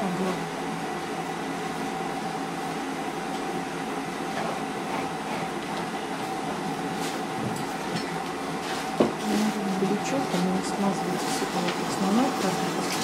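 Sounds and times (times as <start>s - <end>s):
machine hum with whine: 0.0s - 13.0s.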